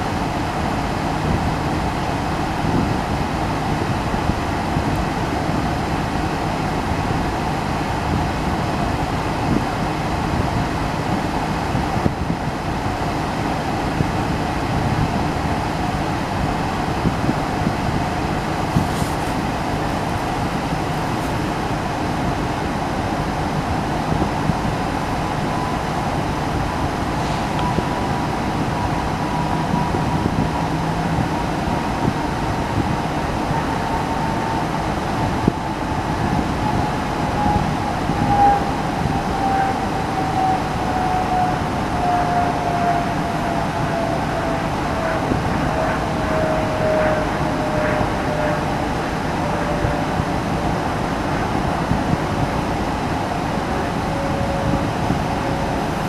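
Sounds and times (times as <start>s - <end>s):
vehicle rumble and hiss: 0.0s - 56.0s.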